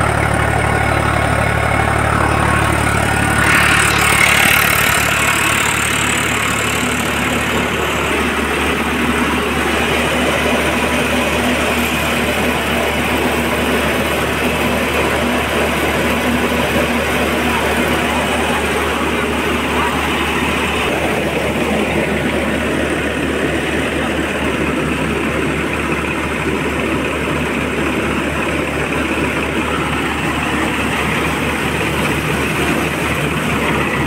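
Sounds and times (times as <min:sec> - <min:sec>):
rice mill machinery drone: 0:00.0 - 0:34.0
tractor diesel engine running: 0:00.0 - 0:34.0.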